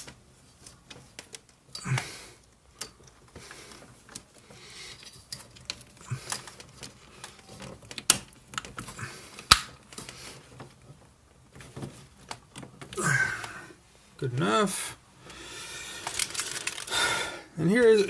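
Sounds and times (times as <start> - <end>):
plastic parts clicking and rustling: 0.0 - 13.6, 15.3 - 18.0.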